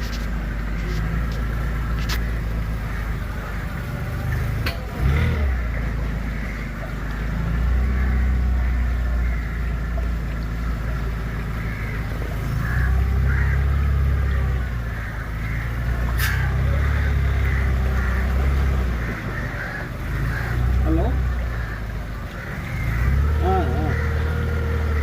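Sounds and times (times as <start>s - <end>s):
boat motor rumbling: 0.0s - 25.0s.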